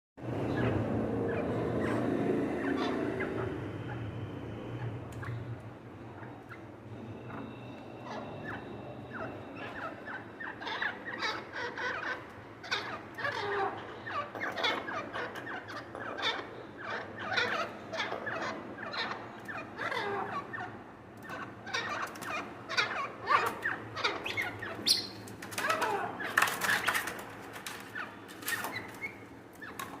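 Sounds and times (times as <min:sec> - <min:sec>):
birds chirping and clucking: 0:00.2 - 0:30.0.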